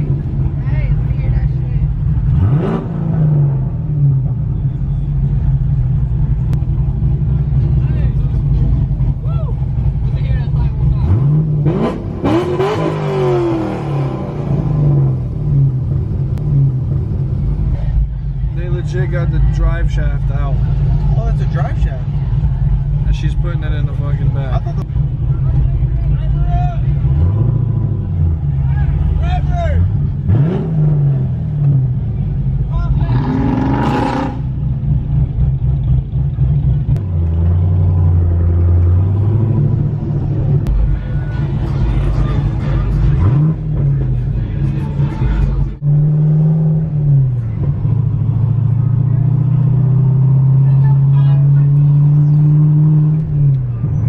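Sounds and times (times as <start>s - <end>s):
vehicle engine revving: 0.0s - 26.1s, 26.8s - 54.0s
deep exhaust drone: 0.0s - 54.0s.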